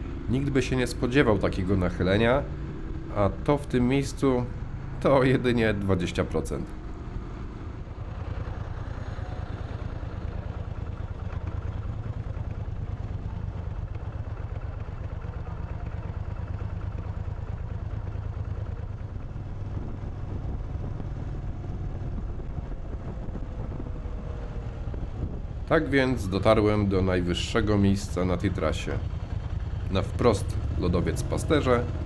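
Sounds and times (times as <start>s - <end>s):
motorcycle engine under load: 1.7s - 32.0s.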